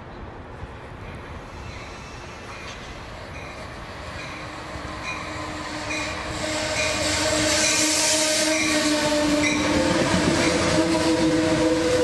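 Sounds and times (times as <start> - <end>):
passenger train passing: 0.0 - 12.0.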